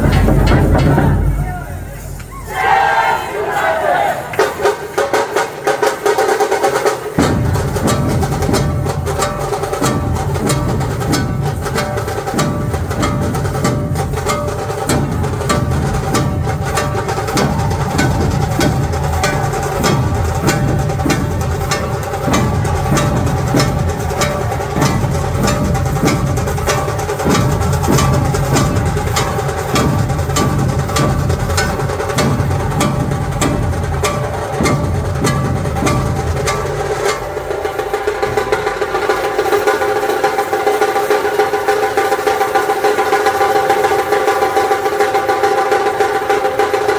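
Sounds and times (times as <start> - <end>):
dhol drums playing rhythm: 0.0 - 2.8, 4.3 - 46.9.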